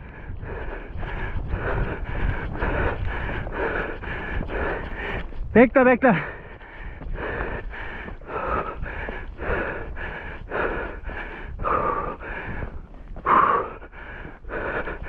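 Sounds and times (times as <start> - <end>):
person panting: 0.0 - 15.0.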